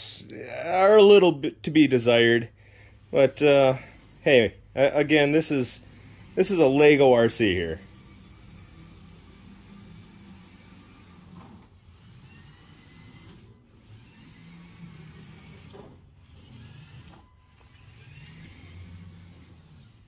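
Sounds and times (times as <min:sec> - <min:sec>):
toy car electric motor whirring: 0:02.9 - 0:20.0.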